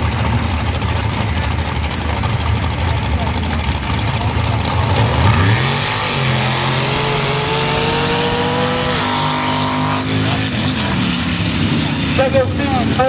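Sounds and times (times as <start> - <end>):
trucks accelerating hard: 0.0 - 13.0.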